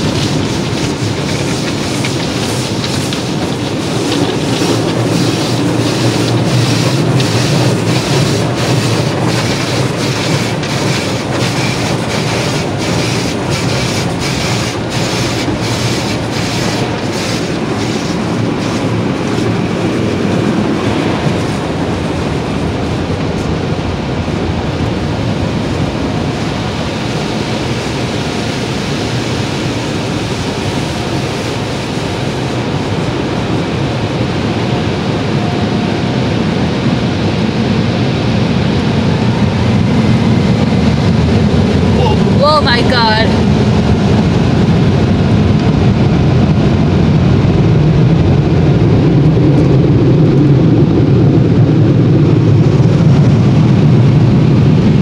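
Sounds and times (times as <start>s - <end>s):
water spray and machinery rush: 0.0s - 55.0s.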